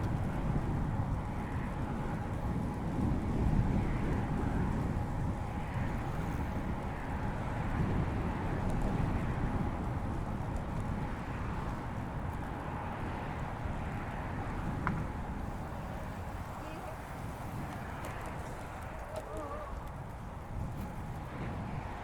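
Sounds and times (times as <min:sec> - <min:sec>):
bicycle tyre noise on pavement: 0:00.0 - 0:22.0
wind rush: 0:00.0 - 0:22.0.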